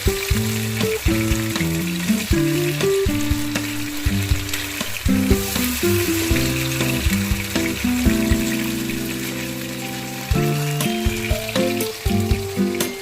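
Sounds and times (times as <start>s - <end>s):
background music: 0.0s - 13.0s
fish sizzling in hot oil: 0.0s - 13.0s.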